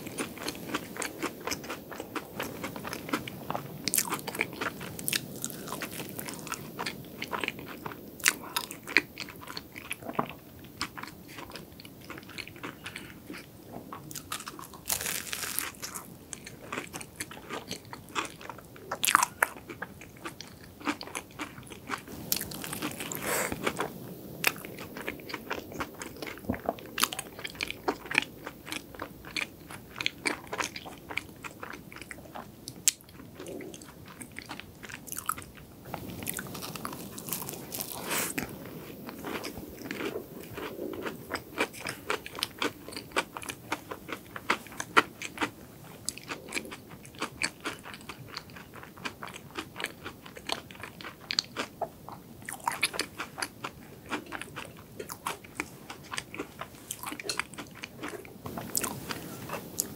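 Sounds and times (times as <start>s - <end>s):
crunchy pastry being chewed: 0.0s - 59.9s.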